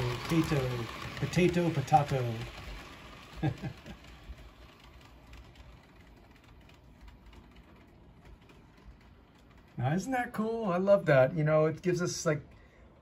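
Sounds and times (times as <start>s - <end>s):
model train clicking on track: 0.0s - 13.0s
model train rumble: 0.0s - 13.0s.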